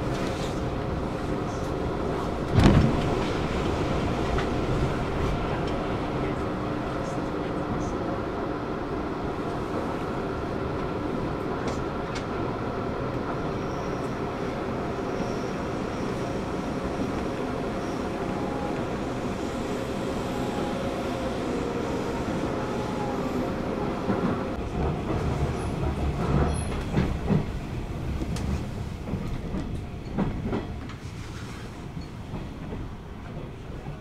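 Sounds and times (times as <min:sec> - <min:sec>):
train interior rumble: 0:00.0 - 0:34.0.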